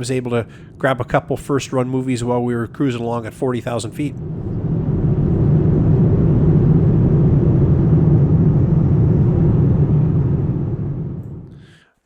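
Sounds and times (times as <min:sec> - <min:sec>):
airliner cabin rumble: 0:00.0 - 0:11.8.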